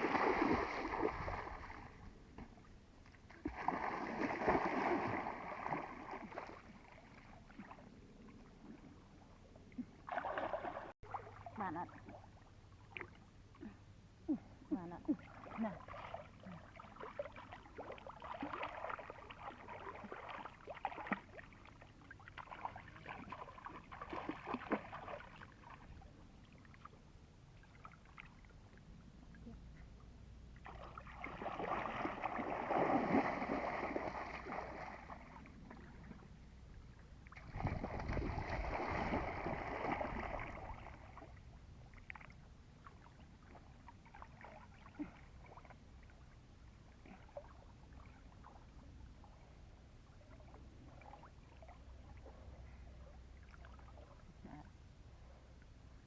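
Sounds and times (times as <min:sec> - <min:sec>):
water splashing and sloshing: 0:00.0 - 0:13.8, 0:15.0 - 0:29.7, 0:30.5 - 0:55.4.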